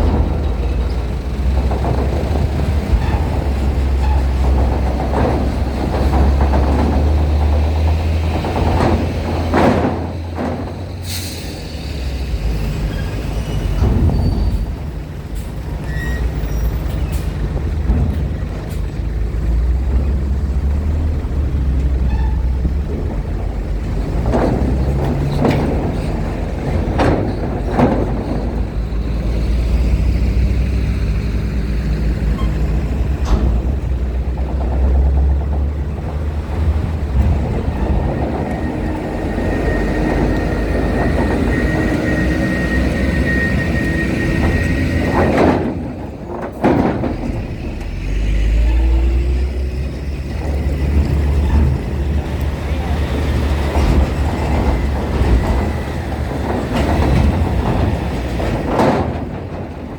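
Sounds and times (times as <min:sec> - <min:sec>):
loud knocks and clanks: 0:00.0 - 0:11.7, 0:12.4 - 0:59.9
truck and bus engines rumbling: 0:00.0 - 0:59.9.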